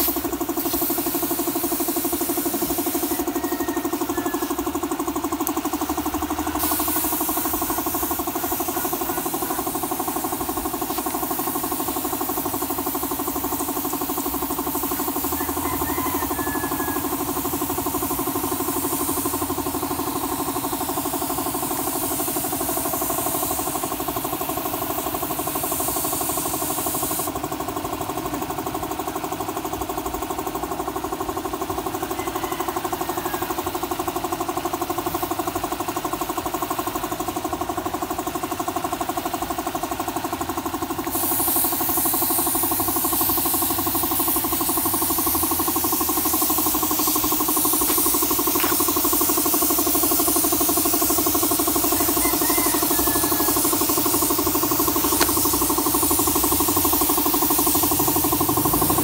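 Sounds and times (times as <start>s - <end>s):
spray gun hissing: 0.0s - 27.4s, 38.9s - 59.0s
air compressor droning: 0.0s - 59.0s.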